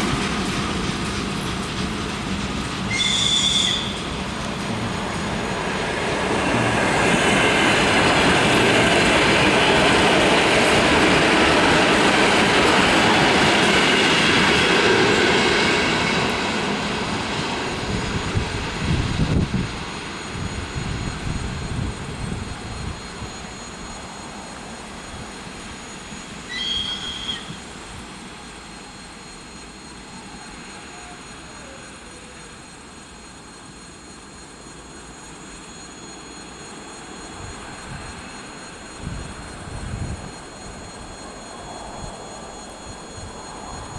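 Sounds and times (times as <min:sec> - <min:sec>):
train wheels rumbling and squealing: 0:00.0 - 0:43.9.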